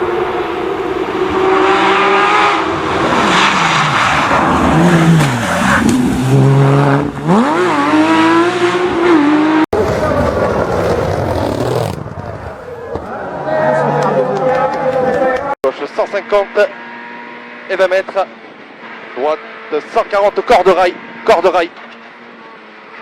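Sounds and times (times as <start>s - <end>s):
rally car engine revving: 0.0s - 14.2s, 14.9s - 23.0s.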